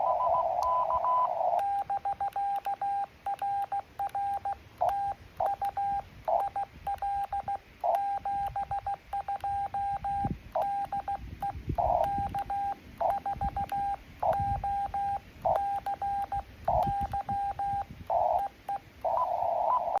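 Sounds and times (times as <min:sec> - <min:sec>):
morse code tone: 0:00.0 - 0:20.0.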